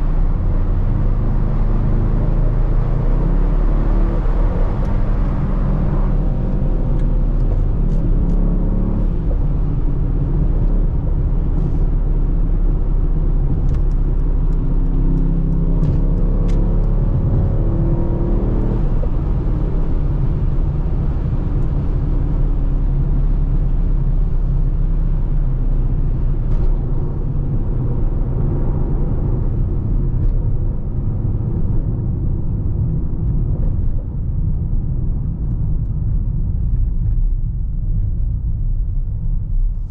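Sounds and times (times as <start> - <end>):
car engine running: 0.0 - 39.9
low road rumble: 0.0 - 39.9.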